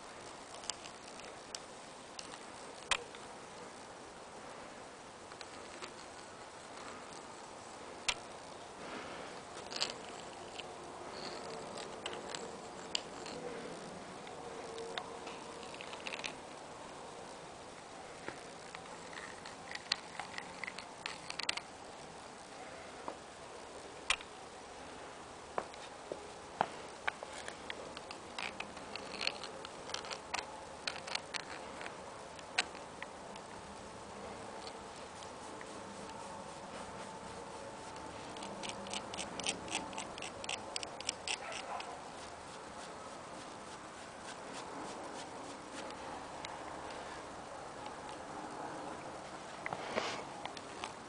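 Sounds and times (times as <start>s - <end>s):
faint room hiss: 0.0s - 51.0s.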